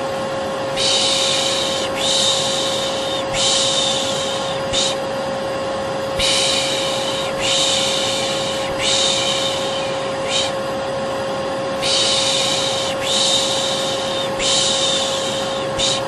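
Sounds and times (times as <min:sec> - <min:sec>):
vacuum cleaner running: 0:00.0 - 0:16.0
person shushing: 0:00.8 - 0:05.0, 0:06.2 - 0:10.6, 0:11.8 - 0:16.0.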